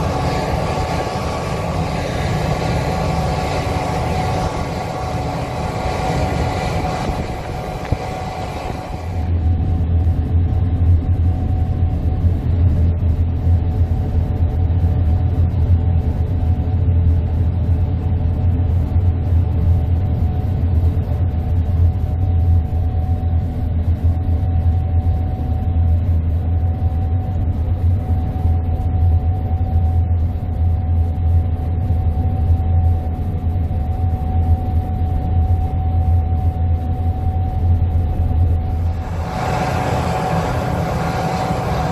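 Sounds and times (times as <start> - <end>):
combine harvester droning: 0.0 - 41.9.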